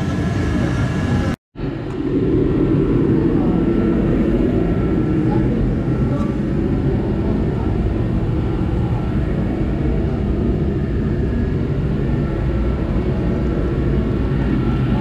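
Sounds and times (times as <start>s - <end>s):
low rumble of machinery: 0.0s - 15.0s.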